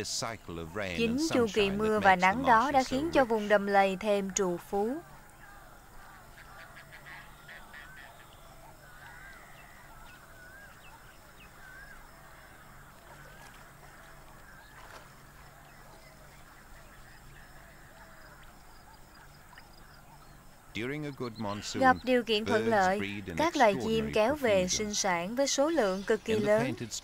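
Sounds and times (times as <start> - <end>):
waterbirds squawking and croaking: 0.0 - 27.0.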